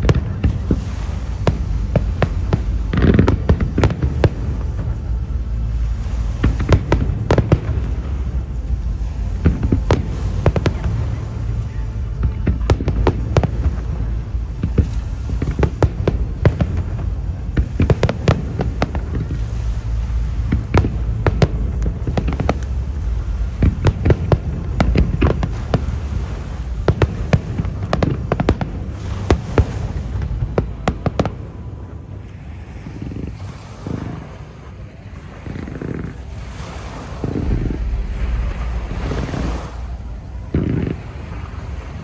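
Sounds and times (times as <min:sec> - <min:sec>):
low rumble: 0:00.0 - 0:33.6, 0:34.9 - 0:42.0
firework bangs and crackling: 0:00.0 - 0:42.0.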